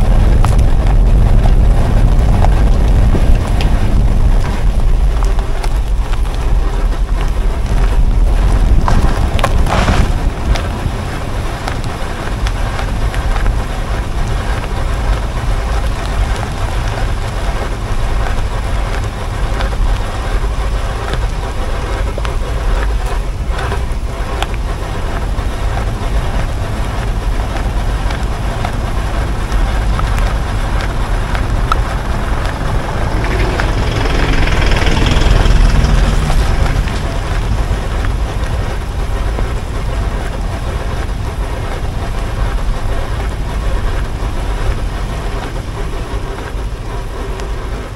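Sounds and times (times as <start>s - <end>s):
tyre and wind noise: 0.0s - 47.9s.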